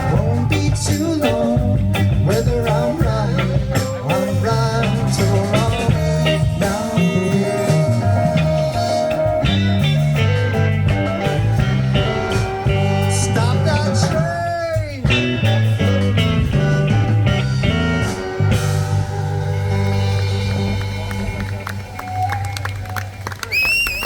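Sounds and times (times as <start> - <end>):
electric guitar note bending: 0.0 - 14.4, 15.1 - 22.2
blues band playing: 0.0 - 24.0.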